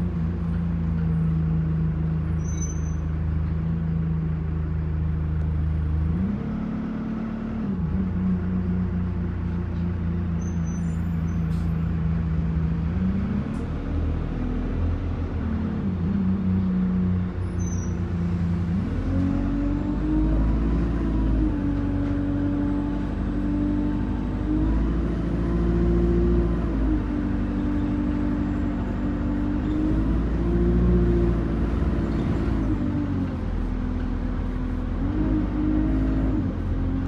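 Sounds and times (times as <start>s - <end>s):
bus diesel engine: 0.0s - 37.0s
road noise: 0.0s - 37.0s.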